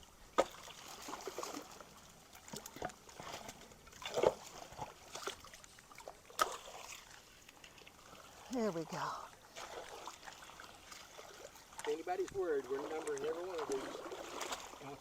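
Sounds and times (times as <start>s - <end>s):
creek water splashing: 0.0s - 15.0s.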